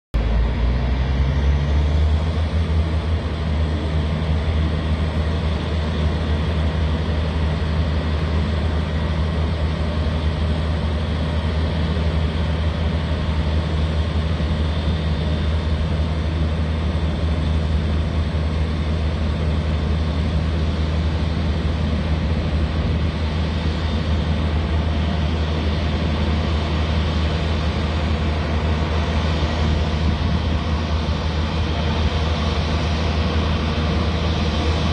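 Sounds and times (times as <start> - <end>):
jet engines taxiing: 0.2 - 34.9.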